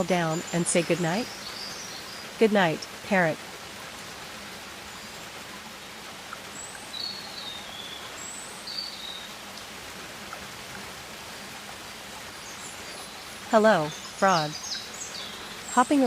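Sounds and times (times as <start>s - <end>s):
steady hiss of rain: 0.0s - 16.0s.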